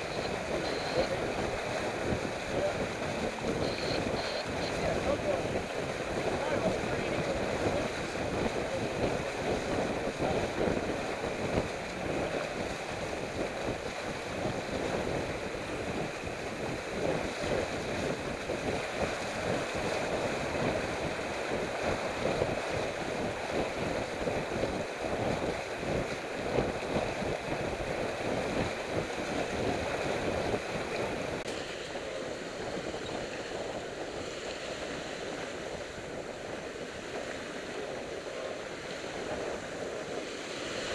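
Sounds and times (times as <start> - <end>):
water rushing along boat hull: 0.0 - 40.9
wind buffeting microphone: 0.0 - 40.9.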